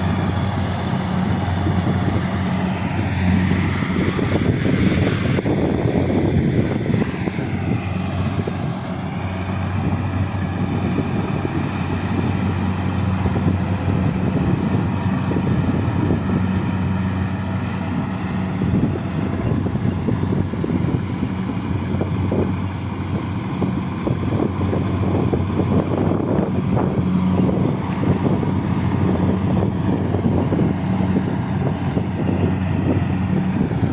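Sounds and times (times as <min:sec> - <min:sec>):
combine harvester engine drone: 0:00.0 - 0:33.9
harvesting machinery noise: 0:00.0 - 0:33.9.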